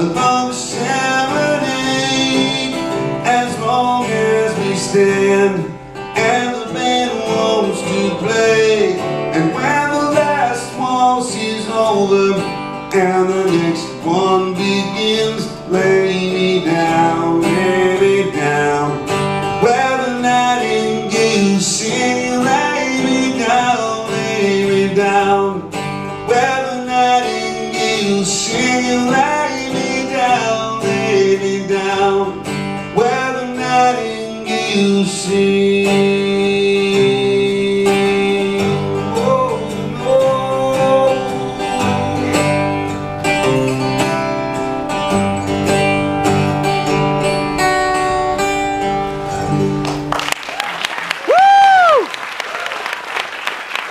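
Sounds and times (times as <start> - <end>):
acoustic guitar strumming: 0.0 - 50.3
folk band melody: 0.0 - 50.4.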